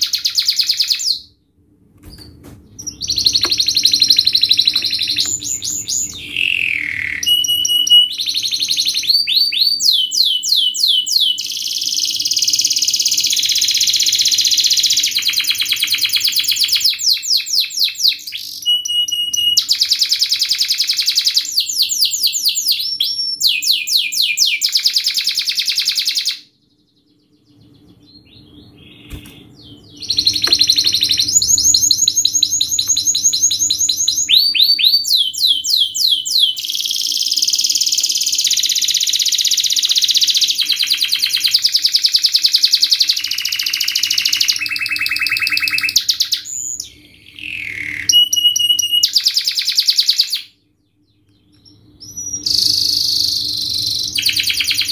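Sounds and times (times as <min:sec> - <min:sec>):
canary singing trills: 0:02.2 - 0:54.9.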